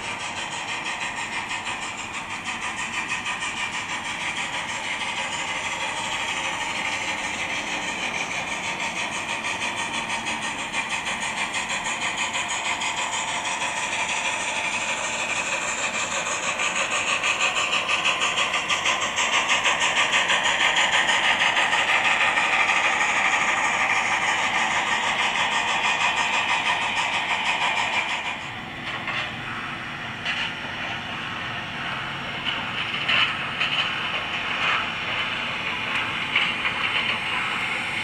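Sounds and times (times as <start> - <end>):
model steam locomotive chuffs: 0.0 - 38.0.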